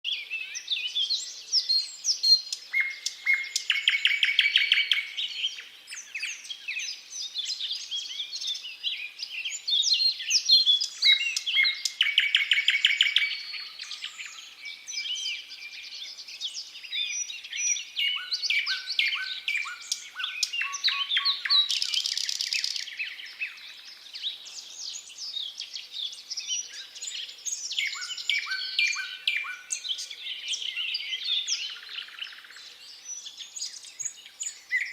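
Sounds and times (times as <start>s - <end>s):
bird singing: 0.0s - 34.9s.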